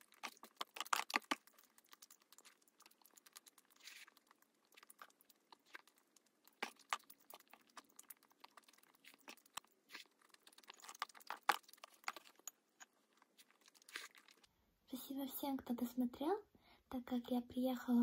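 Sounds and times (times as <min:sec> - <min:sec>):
mouth clicks and smacks: 0:00.0 - 0:14.5
person chewing food: 0:00.0 - 0:14.6.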